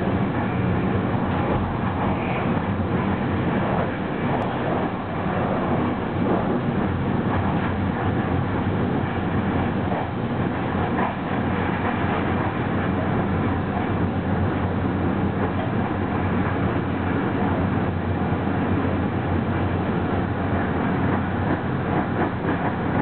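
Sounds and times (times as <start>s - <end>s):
train wheels rolling on rail: 0.0s - 23.0s.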